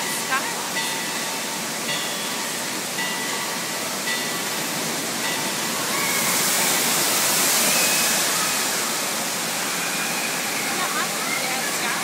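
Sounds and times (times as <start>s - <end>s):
water spraying from fountains: 0.0s - 12.0s.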